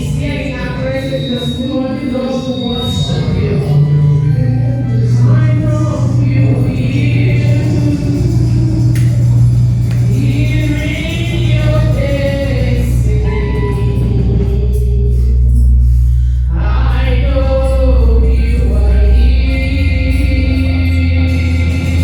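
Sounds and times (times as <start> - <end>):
gospel choir singing: 0.0 - 22.0
heavy bass accompaniment: 0.0 - 22.0.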